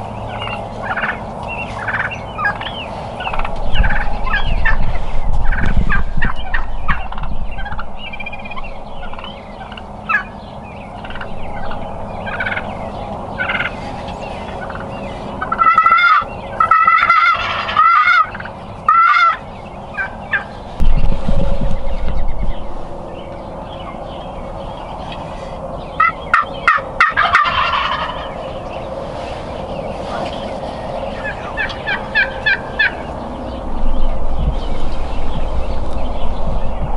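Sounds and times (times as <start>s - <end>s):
turkeys gobbling: 0.0s - 20.9s, 21.9s - 33.6s.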